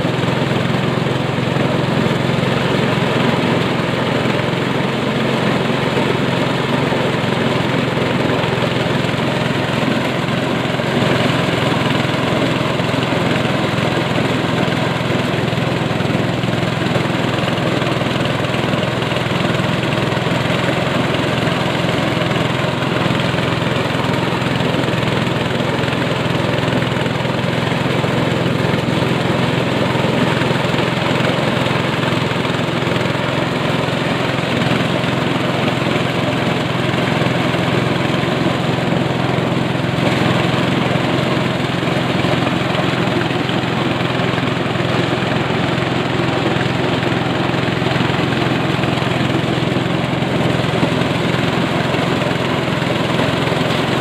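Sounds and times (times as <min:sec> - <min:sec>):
engine hum: 0:00.0 - 0:54.0.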